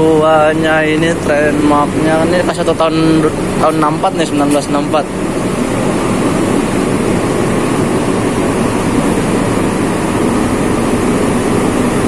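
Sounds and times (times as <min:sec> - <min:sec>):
diesel train idling drone: 0:00.0 - 0:12.0.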